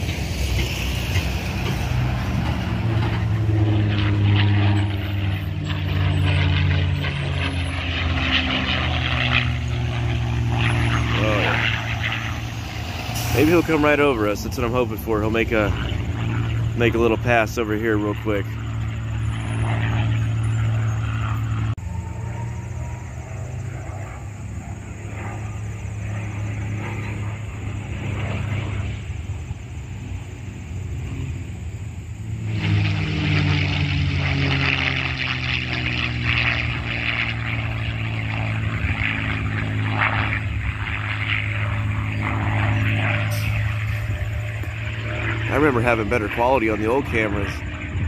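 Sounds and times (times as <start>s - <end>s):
propeller plane droning: 0.0s - 48.0s.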